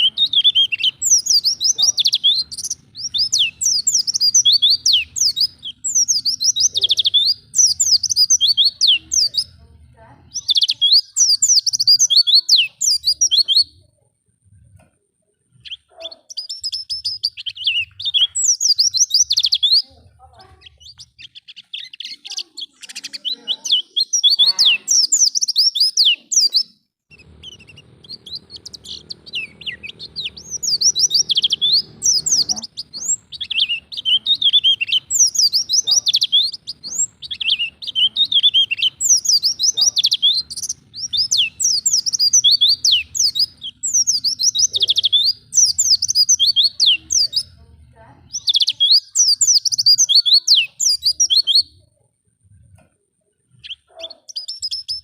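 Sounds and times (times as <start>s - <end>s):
bird twittering song: 0.0s - 14.0s, 15.4s - 52.0s, 53.5s - 55.0s.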